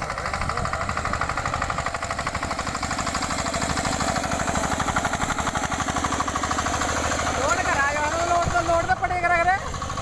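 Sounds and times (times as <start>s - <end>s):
cultivator engine running: 0.0s - 10.0s.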